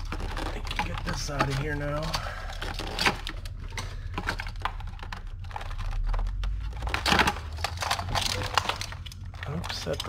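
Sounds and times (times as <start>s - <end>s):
plastic clips clicking and rattling: 0.0s - 10.0s
steady low hum: 0.0s - 10.0s.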